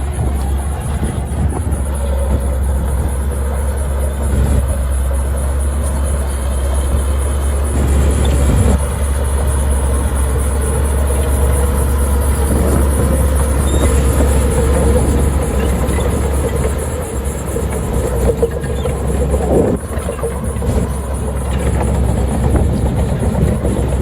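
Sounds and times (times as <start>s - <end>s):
diesel engine droning: 0.0s - 24.0s
rough clattering of machinery: 0.0s - 24.0s.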